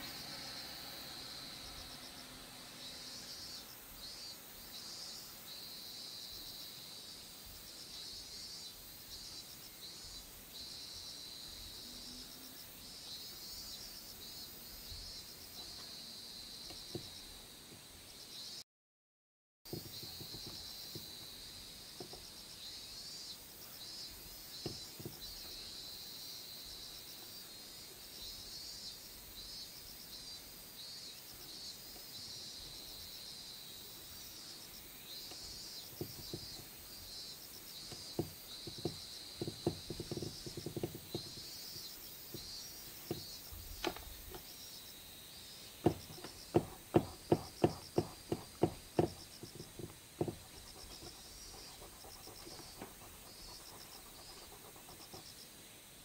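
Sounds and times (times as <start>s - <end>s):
insects chirping: 0.0s - 18.6s, 19.7s - 56.0s.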